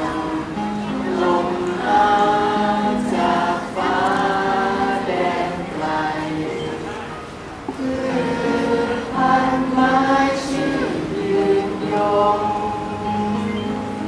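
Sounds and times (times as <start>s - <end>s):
crowd singing slow song: 0.0s - 14.0s.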